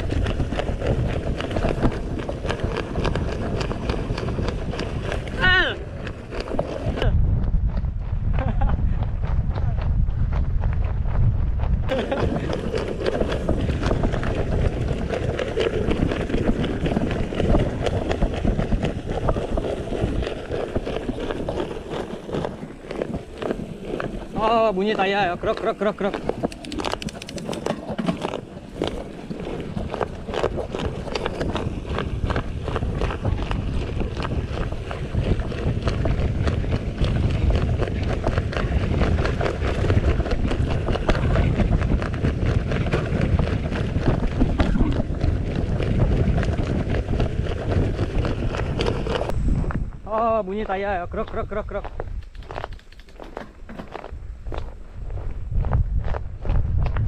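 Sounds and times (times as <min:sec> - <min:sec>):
bike rattling: 0:00.0 - 0:57.0
wind rumbling on microphone: 0:00.0 - 0:57.0.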